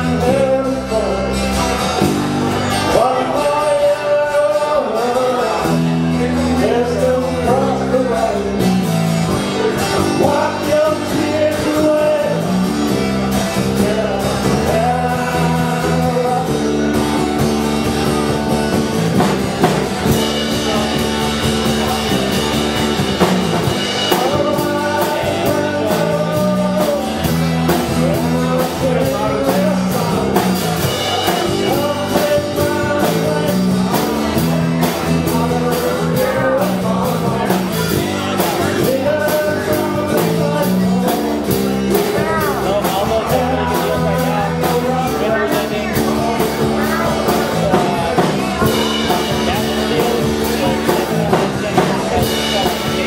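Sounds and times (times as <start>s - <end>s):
acoustic guitar: 0.0s - 53.0s
drum kit: 0.0s - 53.0s
electric guitar: 0.0s - 53.0s
person singing: 0.0s - 53.0s.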